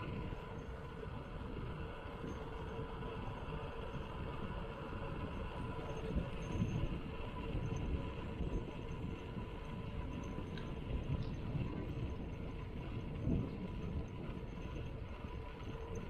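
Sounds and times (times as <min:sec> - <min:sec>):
bicycle rolling on concrete: 0:00.0 - 0:16.0.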